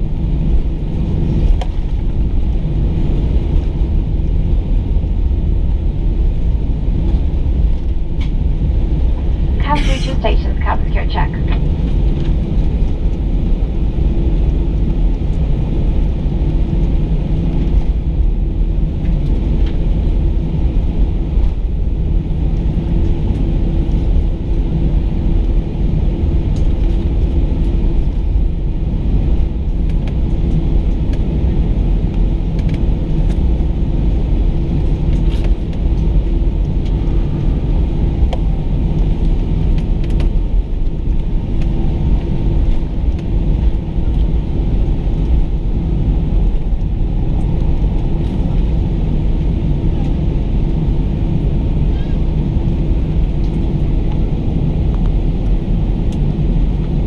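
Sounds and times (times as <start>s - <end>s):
airplane engines rumbling in cabin: 0.0s - 57.0s
constant hum: 0.0s - 57.0s.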